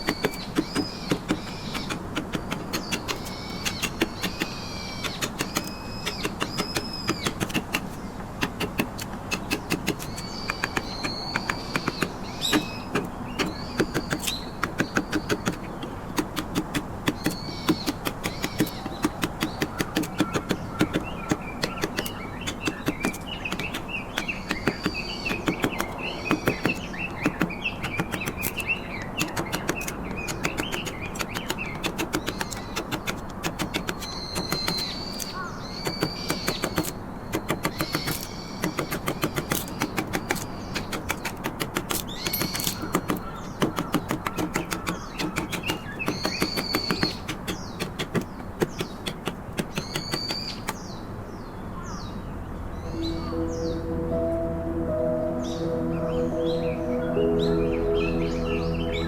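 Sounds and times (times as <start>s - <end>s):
mallet striking chisel: 0.0s - 50.8s
bird warbling song: 0.0s - 54.4s, 55.0s - 59.0s
birds chirping: 0.0s - 59.0s.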